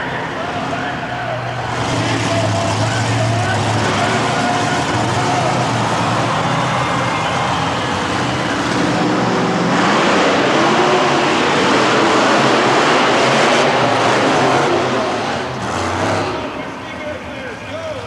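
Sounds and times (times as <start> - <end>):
monster truck engines running: 0.0 - 18.0.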